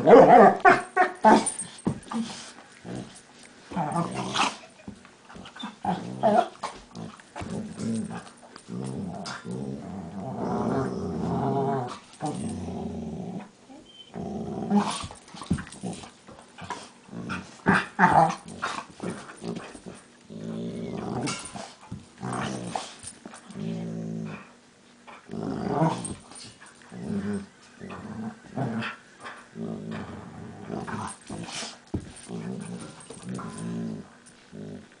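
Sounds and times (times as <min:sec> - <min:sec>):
dogs growling: 0:00.0 - 0:13.5, 0:14.1 - 0:35.0.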